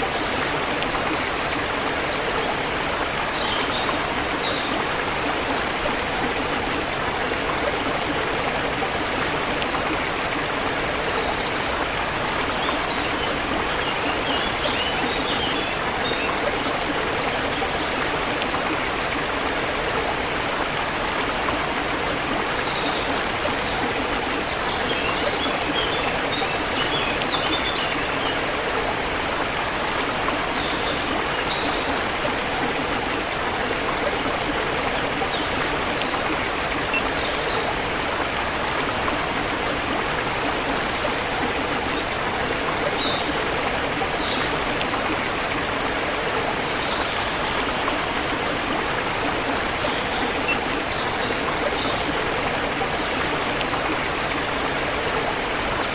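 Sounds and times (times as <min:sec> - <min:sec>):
river flowing over rocks: 0:00.0 - 0:55.9.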